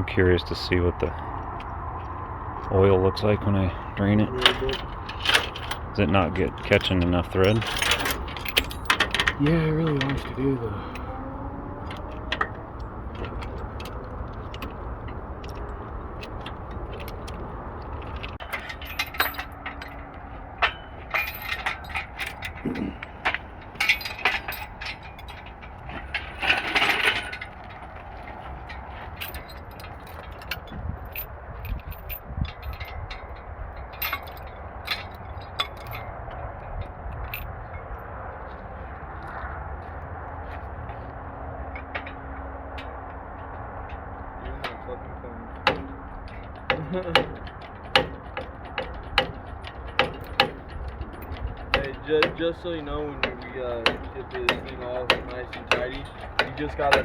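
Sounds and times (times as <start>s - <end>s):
steady low hum: 0.0s - 57.0s
metal tools clinking: 3.2s - 38.0s, 41.7s - 57.0s.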